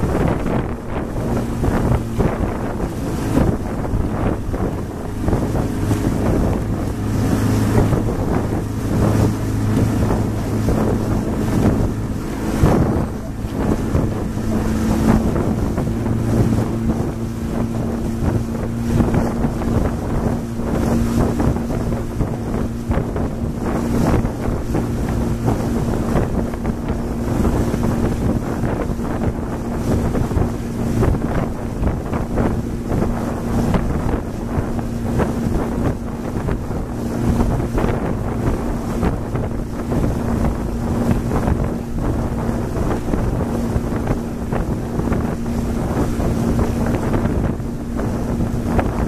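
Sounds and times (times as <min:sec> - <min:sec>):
motorboat engine running: 0:00.0 - 0:49.0
water rushing past hull: 0:00.0 - 0:49.0
wind buffeting microphone: 0:00.0 - 0:49.0.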